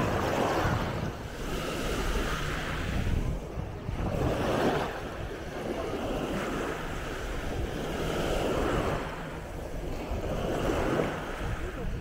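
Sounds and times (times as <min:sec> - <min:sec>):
small waves washing on shore: 0:00.0 - 0:12.0
wind buffeting microphone: 0:00.0 - 0:12.0.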